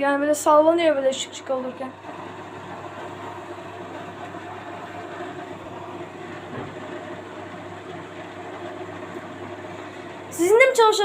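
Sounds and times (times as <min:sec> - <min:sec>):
washing machine humming and whirring: 0:00.0 - 0:11.0.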